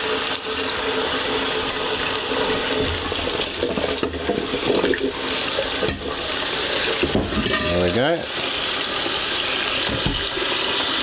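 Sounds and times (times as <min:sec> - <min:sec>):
tap water filling metal pot: 0:00.0 - 0:11.0.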